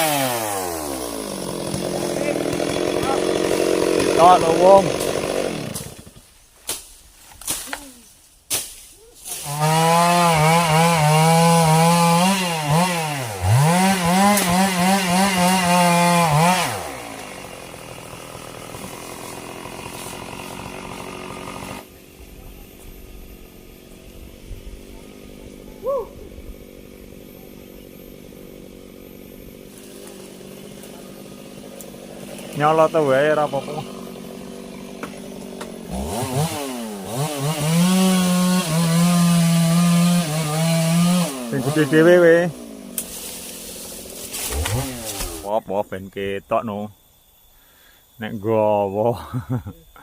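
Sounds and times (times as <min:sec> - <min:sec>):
chainsaw cutting wood: 0:00.0 - 0:07.9, 0:08.5 - 0:45.6.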